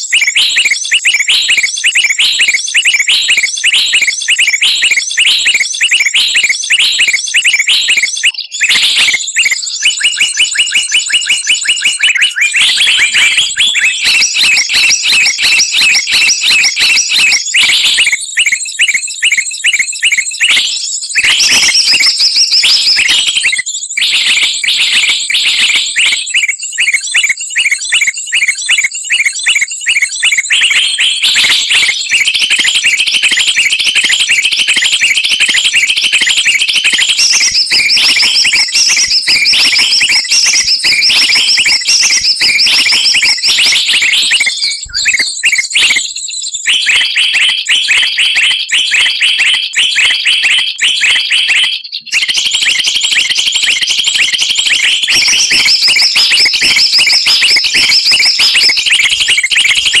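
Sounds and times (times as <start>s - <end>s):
songbirds chirping and trilling: 0.0s - 48.2s, 51.0s - 60.0s.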